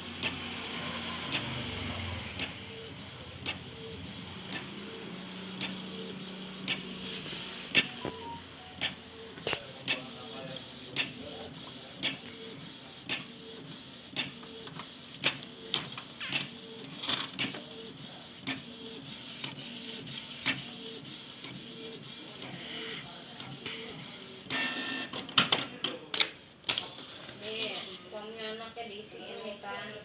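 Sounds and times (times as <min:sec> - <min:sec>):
inkjet printer carriage humming: 0:00.0 - 0:25.4
printer whirr: 0:00.0 - 0:26.0.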